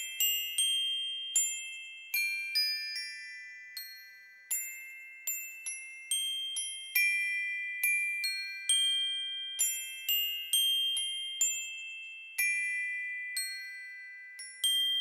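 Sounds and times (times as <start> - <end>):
glockenspiel-like bell melody: 0.0 - 15.0.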